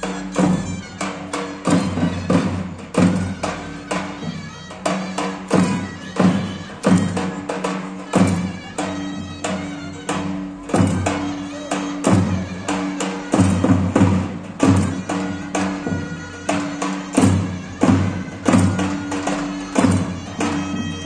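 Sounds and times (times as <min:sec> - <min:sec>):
large drum beating: 0:00.0 - 0:21.0
reedy wind melody: 0:00.0 - 0:21.0.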